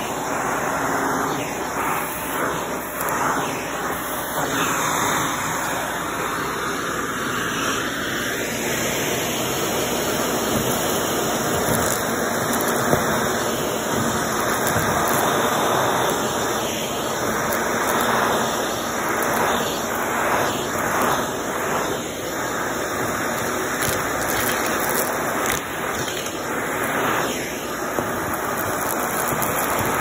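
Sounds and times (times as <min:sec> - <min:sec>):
vacuum cleaner running on carpet: 0:00.0 - 0:30.0.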